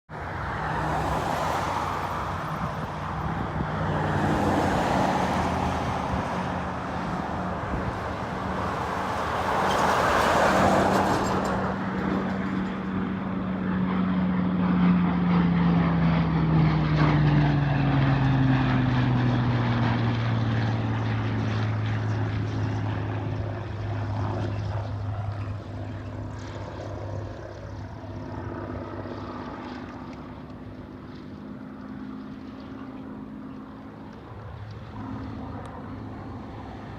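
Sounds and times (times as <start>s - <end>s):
propeller plane engine drone: 0.1s - 36.9s.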